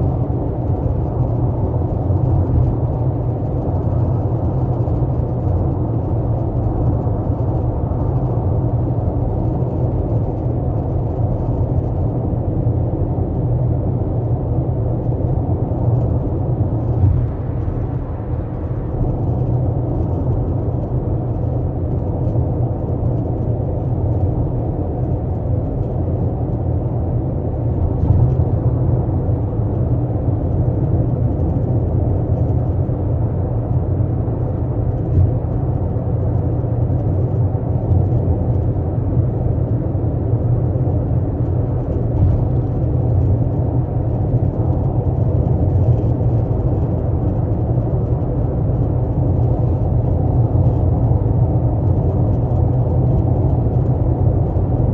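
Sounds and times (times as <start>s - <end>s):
car low rumble and whir: 0.0s - 54.9s.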